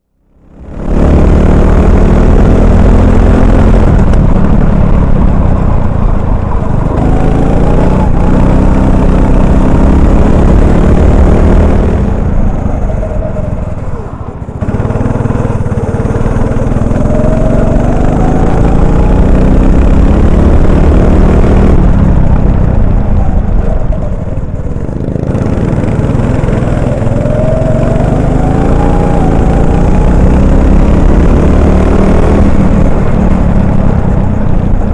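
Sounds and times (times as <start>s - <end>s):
kart engine accelerating: 0.2s - 34.9s.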